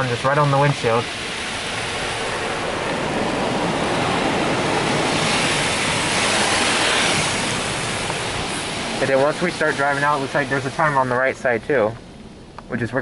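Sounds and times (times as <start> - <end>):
water spraying on vehicle: 0.0 - 12.4.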